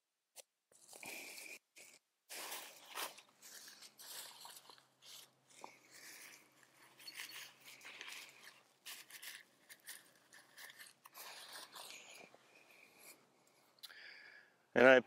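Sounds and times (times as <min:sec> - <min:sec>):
tent fabric rustling: 0:00.8 - 0:13.2.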